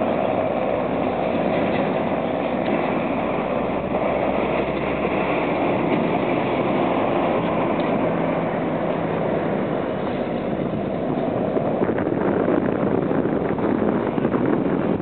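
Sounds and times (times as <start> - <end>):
helicopter flying: 0.0 - 15.0.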